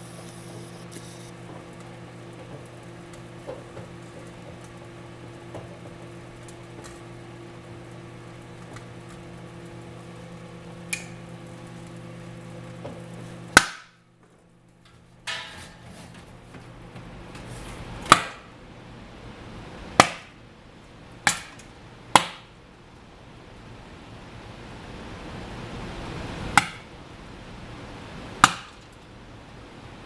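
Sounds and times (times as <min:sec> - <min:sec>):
microwave oven humming: 0:00.0 - 0:30.0.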